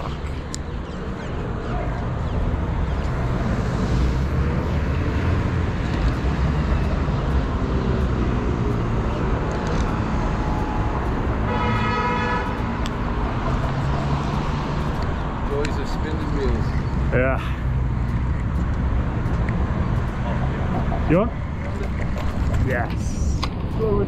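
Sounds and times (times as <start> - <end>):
city street traffic rumble: 0.0 - 24.0.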